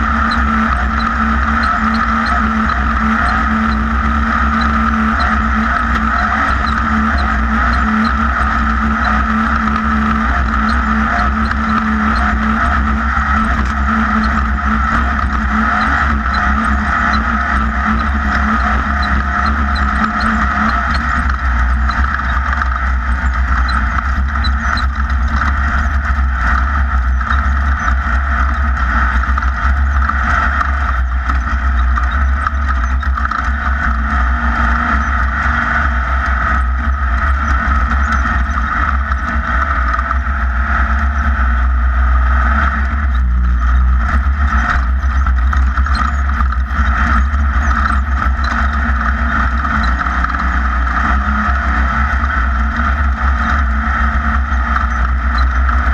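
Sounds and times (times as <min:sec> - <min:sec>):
buggy engine running: 0:00.0 - 0:55.9
heavy low rumble: 0:00.0 - 0:55.9.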